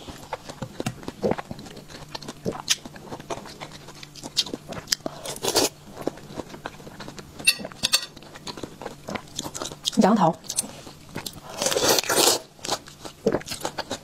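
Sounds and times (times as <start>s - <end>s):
biting and chewing fruit: 0.0s - 14.0s.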